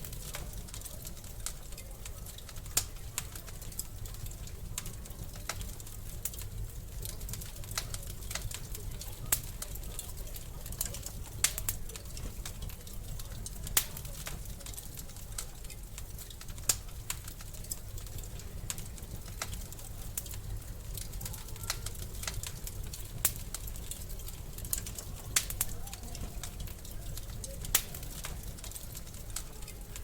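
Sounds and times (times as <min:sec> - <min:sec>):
fire pops and snaps: 0:00.0 - 0:30.0
wood fire crackling: 0:00.0 - 0:30.0.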